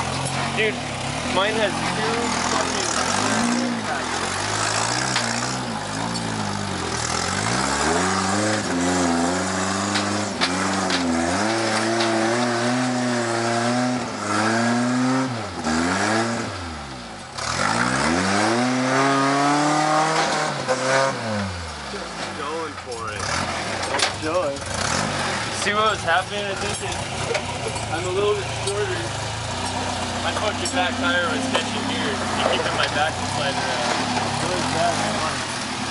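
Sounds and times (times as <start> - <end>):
engine revving hard: 0.0 - 35.9.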